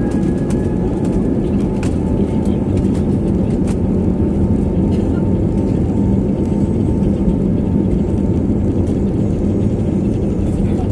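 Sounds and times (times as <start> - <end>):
jet engines rumbling in cabin: 0.0 - 10.9.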